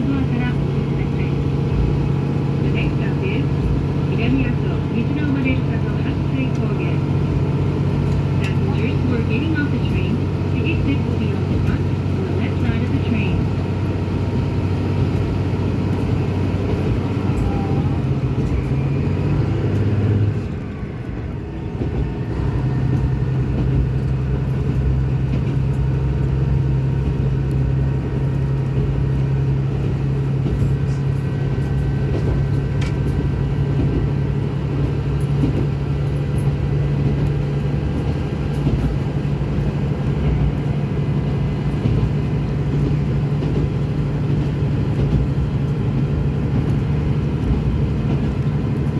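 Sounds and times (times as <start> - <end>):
rail noise: 0.0 - 48.9
railcar engine drone: 0.0 - 48.9.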